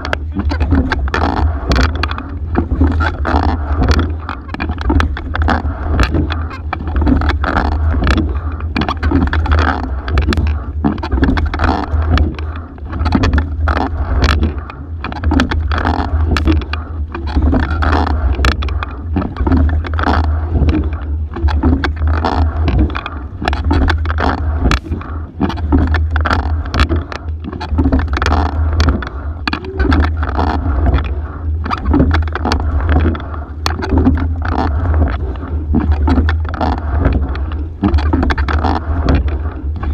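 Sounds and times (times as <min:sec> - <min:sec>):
oars knocking: 0:00.0 - 0:39.9
steady low rumble: 0:00.0 - 0:39.9.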